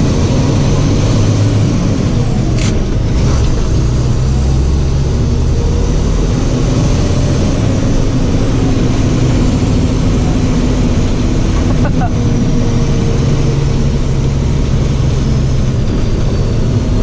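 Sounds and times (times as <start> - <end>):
truck engine running: 0.0 - 17.0
wind and road noise: 0.0 - 17.0.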